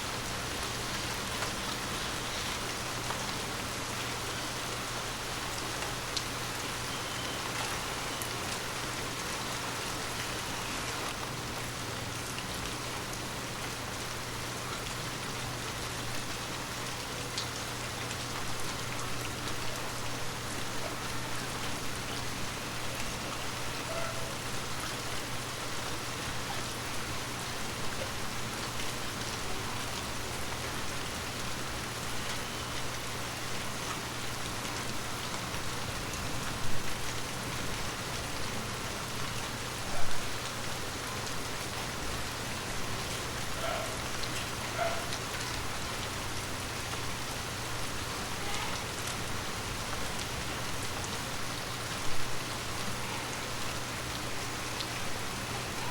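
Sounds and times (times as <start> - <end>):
rain falling on leaves: 0.0 - 55.9.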